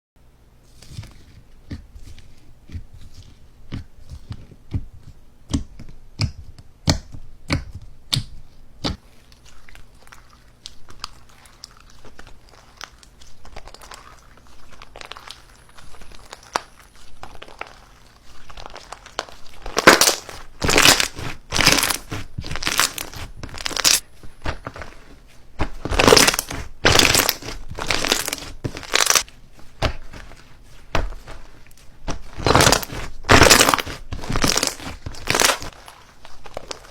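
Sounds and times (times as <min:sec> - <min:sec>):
slime squished crackling and popping: 0:05.5 - 0:36.9.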